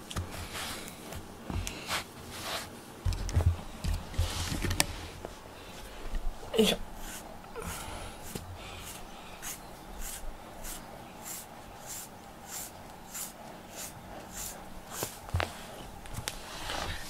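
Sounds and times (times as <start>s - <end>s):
brush swishing through cat fur: 0.3s - 2.8s, 4.1s - 5.4s, 7.0s - 17.0s.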